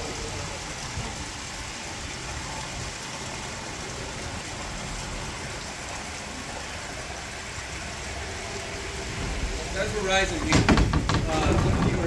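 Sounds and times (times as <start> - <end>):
water gushing through lock gate: 0.0 - 12.0.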